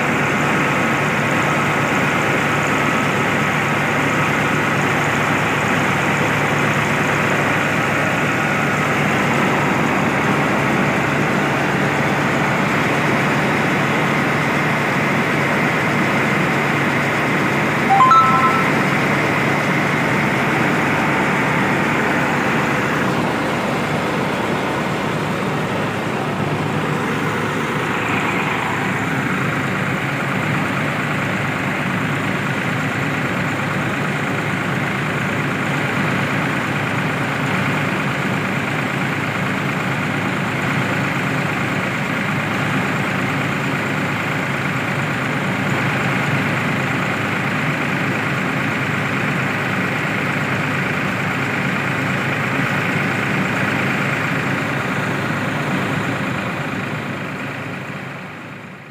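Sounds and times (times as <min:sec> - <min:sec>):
tractor engine and mill droning: 0:00.0 - 0:58.9.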